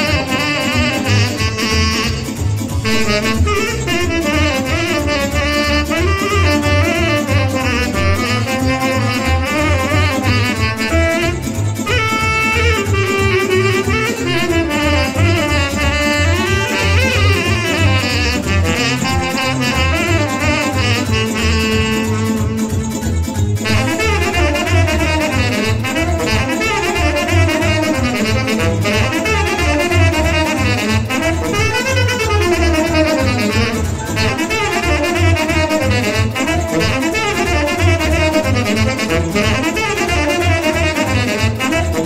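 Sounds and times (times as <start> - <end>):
low bass beat: 0.0 - 42.0
saxophone playing folk dance tune: 0.0 - 42.0.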